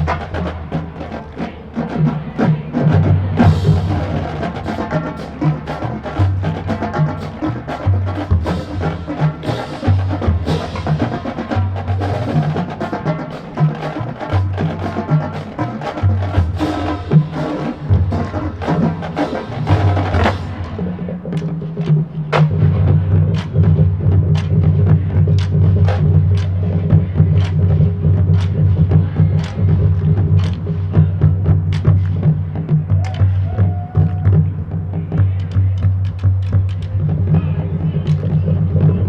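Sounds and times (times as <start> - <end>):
drum and rim strokes: 0.0 - 39.0
marching band music: 0.0 - 39.0.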